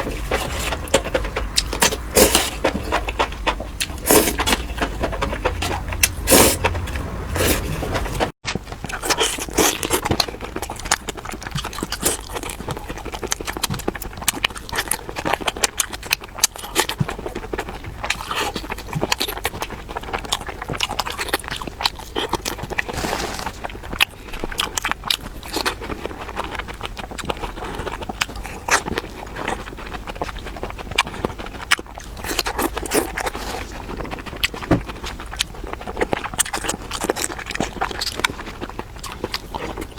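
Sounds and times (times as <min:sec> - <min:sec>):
close chewing with crisp crackles: 0:00.0 - 0:39.9.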